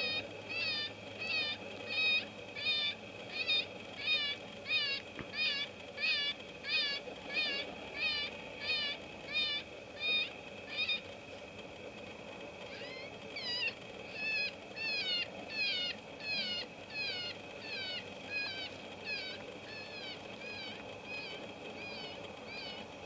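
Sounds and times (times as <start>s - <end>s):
electronic animal distress call: 0.0s - 11.1s, 12.7s - 22.9s.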